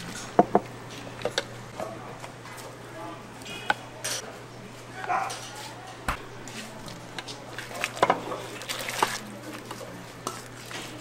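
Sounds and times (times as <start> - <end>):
faint voices: 1.7 - 11.0.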